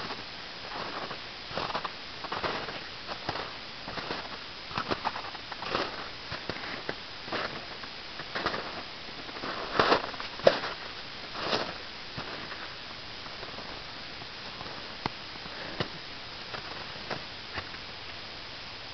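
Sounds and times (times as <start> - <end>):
footsteps crunching in snow: 0.0 - 17.2.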